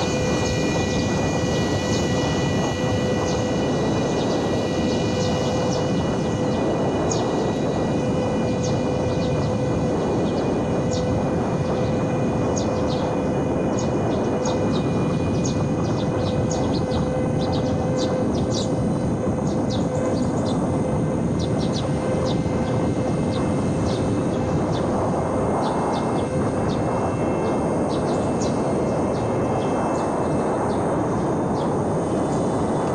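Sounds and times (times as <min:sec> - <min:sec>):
rc airplane motor humming: 0:00.0 - 0:32.9
wind noise: 0:00.0 - 0:32.9.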